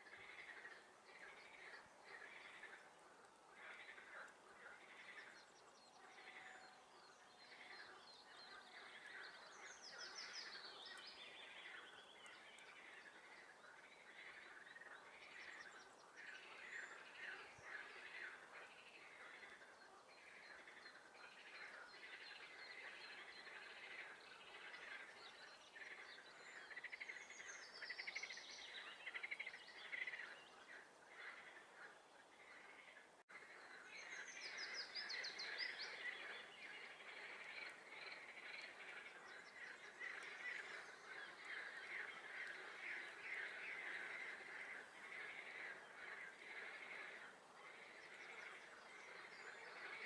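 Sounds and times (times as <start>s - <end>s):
songbirds chirping faintly: 0.0s - 50.0s.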